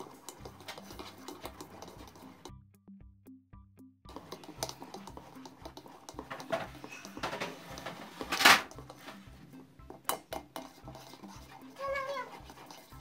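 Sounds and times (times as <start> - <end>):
whisk scraping enamel bowl: 0.0 - 2.6, 4.1 - 13.0.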